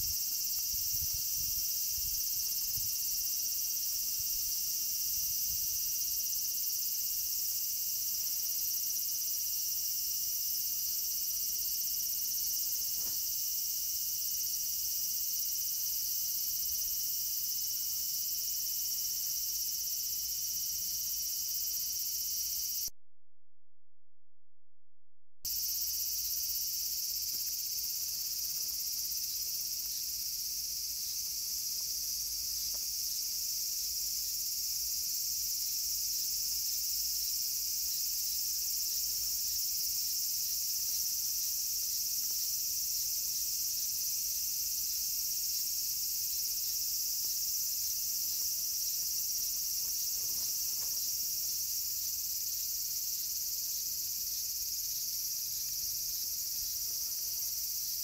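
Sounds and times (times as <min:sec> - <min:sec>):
high-pitched insect chorus: 0:00.0 - 0:22.9, 0:25.5 - 0:58.0.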